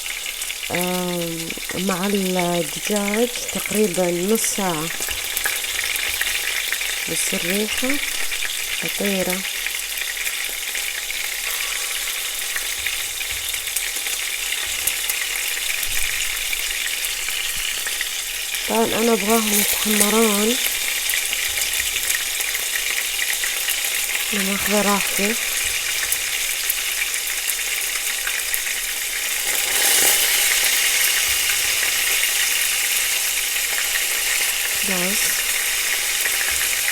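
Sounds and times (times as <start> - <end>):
meatballs sizzling in hot oil: 0.0 - 36.9.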